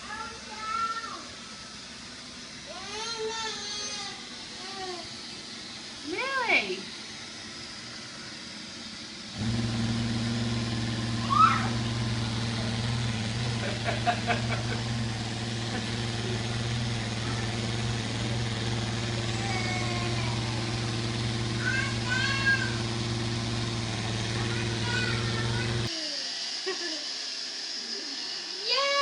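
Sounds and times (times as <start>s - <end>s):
robot vacuum motor hum: 0.1s - 29.0s.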